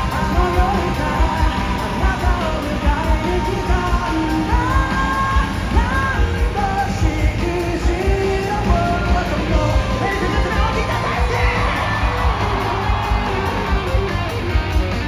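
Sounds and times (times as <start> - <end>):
person singing: 0.0 - 14.0
live pop-rock band: 0.0 - 15.0.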